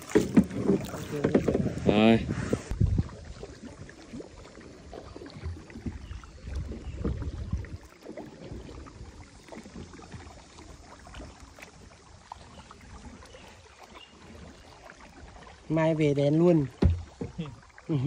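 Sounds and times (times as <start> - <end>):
paddle blades dipping: 0.0 - 18.0
water splashing against hull: 0.0 - 18.0.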